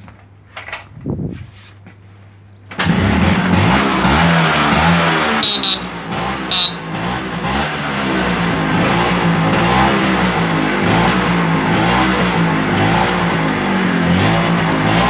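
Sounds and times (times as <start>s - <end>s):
scooter engine revving: 2.8s - 15.0s.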